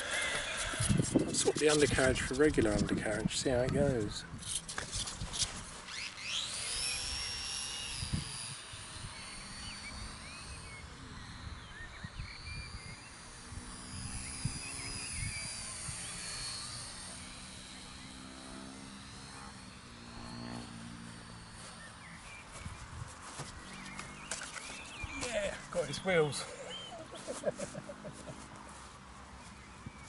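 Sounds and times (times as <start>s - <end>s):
electric motor and propeller whining: 0.0s - 30.0s.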